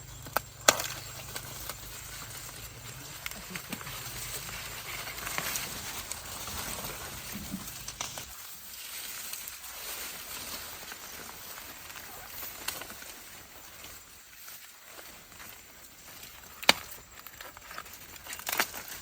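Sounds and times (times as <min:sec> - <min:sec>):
steady rustling: 0:00.0 - 0:19.0.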